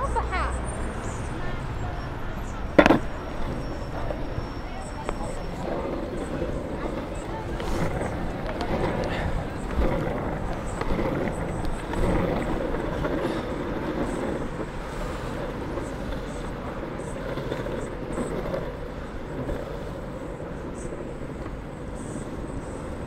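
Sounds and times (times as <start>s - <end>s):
crowd voices: 0.0s - 23.0s
wheels rolling over asphalt: 0.0s - 23.0s.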